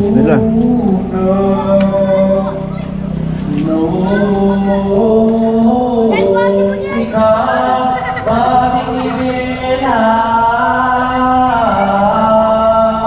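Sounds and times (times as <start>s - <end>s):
voices chanting long notes: 0.0s - 13.0s.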